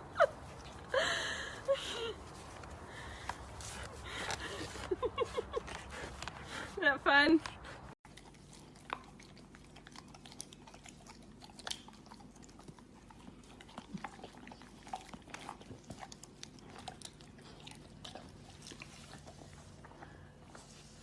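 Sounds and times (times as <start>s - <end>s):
pet chewing: 1.9s - 20.5s.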